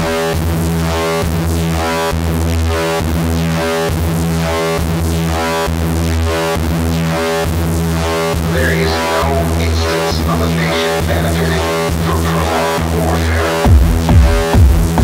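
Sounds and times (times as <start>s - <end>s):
deep synth bass: 0.0s - 15.0s
synthesizer chords: 0.0s - 15.0s.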